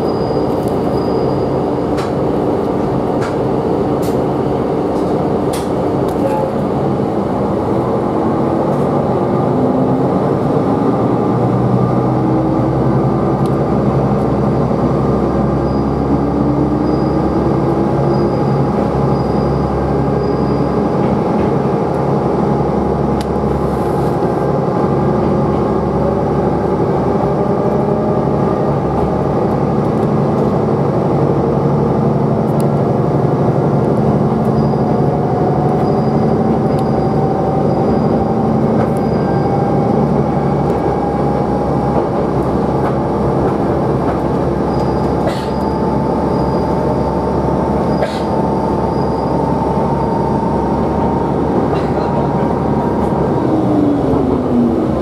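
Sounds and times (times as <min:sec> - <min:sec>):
diesel railcar engine accelerating: 0:00.0 - 0:55.0
low rumble of running train: 0:00.0 - 0:55.0.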